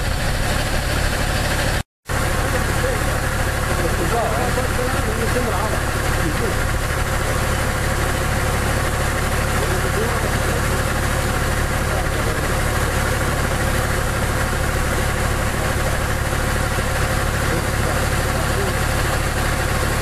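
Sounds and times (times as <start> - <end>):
engine-like drone: 0.0 - 20.0.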